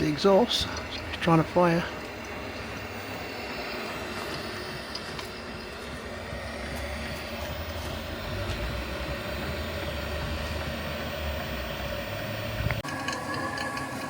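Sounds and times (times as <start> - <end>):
heater fan rumbling: 0.0 - 14.0.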